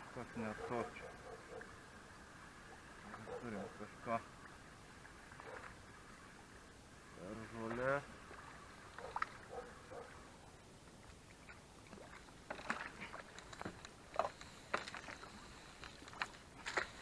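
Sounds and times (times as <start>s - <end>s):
small water splashes: 0.0s - 10.3s, 11.0s - 17.0s.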